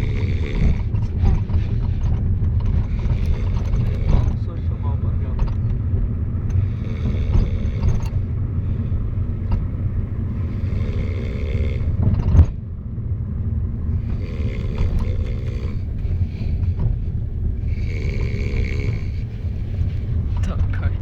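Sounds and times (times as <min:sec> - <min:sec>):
man snoring: 0:00.0 - 0:01.8, 0:02.8 - 0:12.2, 0:13.8 - 0:21.0
car cabin road rumble: 0:00.0 - 0:21.0.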